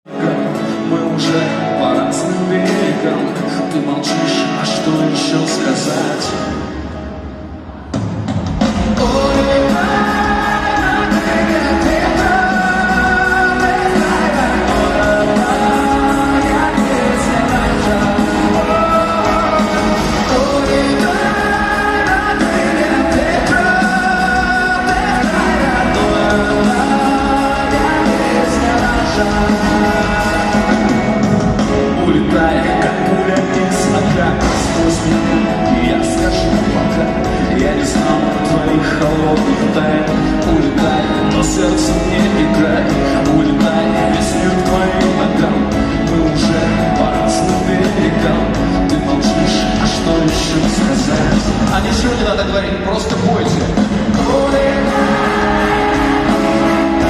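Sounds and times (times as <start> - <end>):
person singing: 0.0 - 52.4, 53.0 - 57.0
guitar: 0.0 - 57.0
live rock-pop concert music: 0.0 - 57.0
drum beat: 7.9 - 52.4, 53.0 - 57.0.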